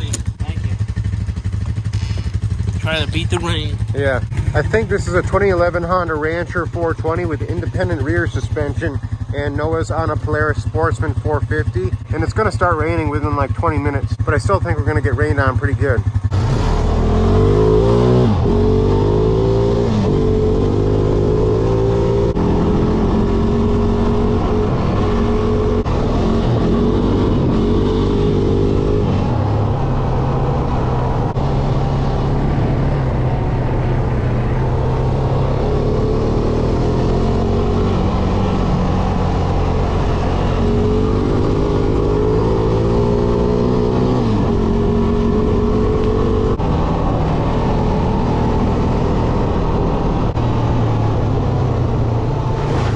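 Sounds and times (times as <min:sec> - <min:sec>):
atv engine running: 0:00.0 - 0:52.9.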